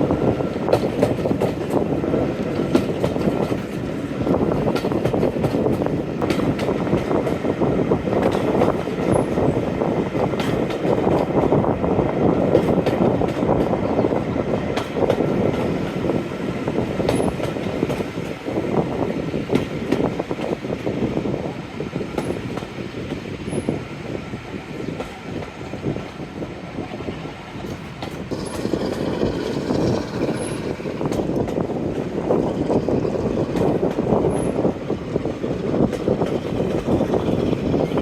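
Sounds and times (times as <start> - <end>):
train rumbling along: 0.0 - 38.0
train wheel knocks: 0.0 - 38.0.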